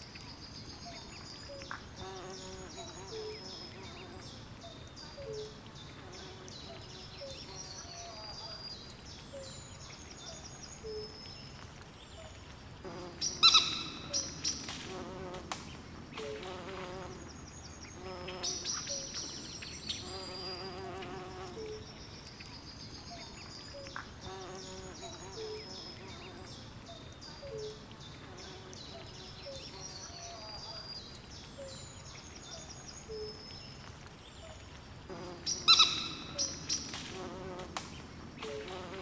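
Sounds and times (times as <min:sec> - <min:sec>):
faint hiss: 0:00.0 - 0:39.0.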